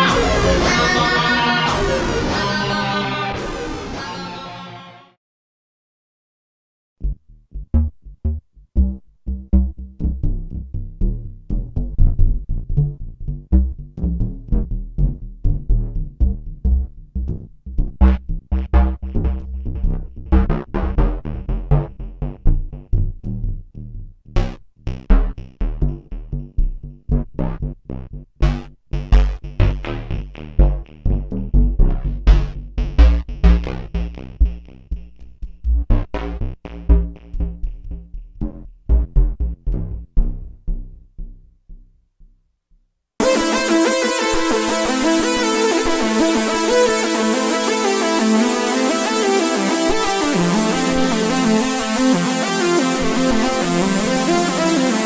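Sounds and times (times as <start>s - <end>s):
synthesizer bass sequence: 0.0s - 4.2s, 7.0s - 41.5s, 43.2s - 55.0s.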